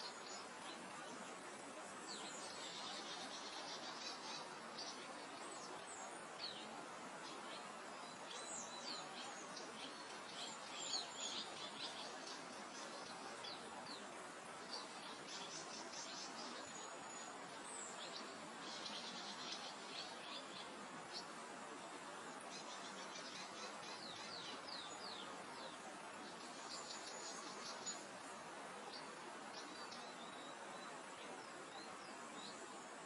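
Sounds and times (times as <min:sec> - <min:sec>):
small birds chirping: 0:00.0 - 0:33.0
wind through grass: 0:00.0 - 0:33.0.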